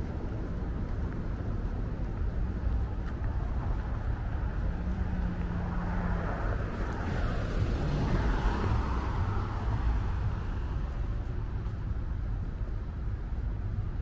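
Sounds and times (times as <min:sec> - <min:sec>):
car tyre noise approaching: 0:00.0 - 0:14.0
low traffic rumble: 0:00.0 - 0:14.0.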